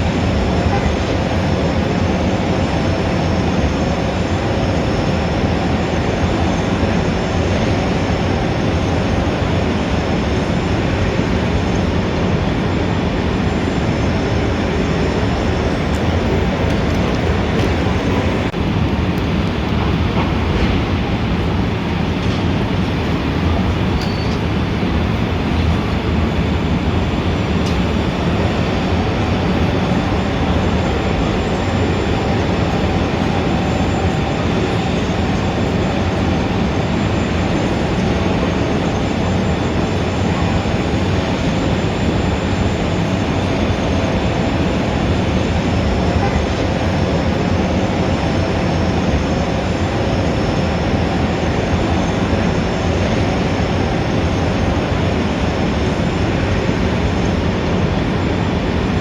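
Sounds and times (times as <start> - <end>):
dense city traffic rumble: 0.0 - 59.0.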